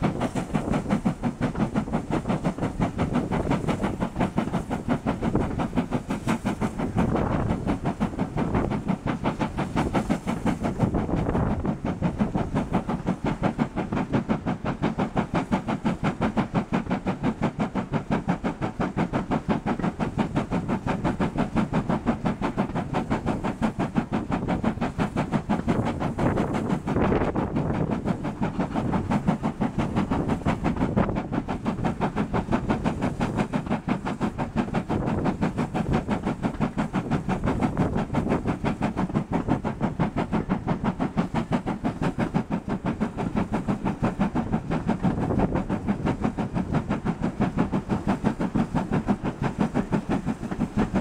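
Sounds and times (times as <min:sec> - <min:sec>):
steam locomotive exhaust beats: 0:00.0 - 0:51.0
train running on rails: 0:00.0 - 0:51.0.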